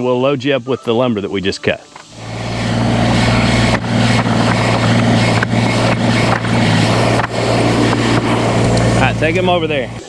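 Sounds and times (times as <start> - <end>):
tractor engine running: 1.9 - 10.0.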